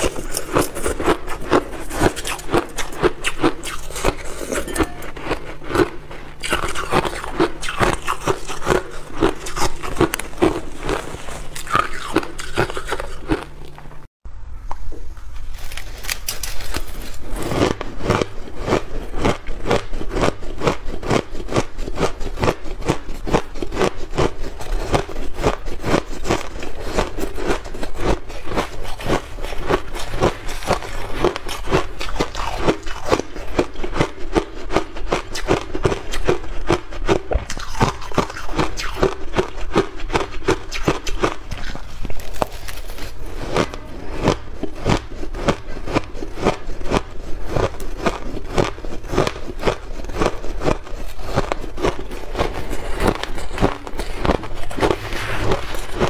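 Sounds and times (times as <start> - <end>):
shaved ice crunching when chewed: 0.0 - 13.9, 15.4 - 56.0.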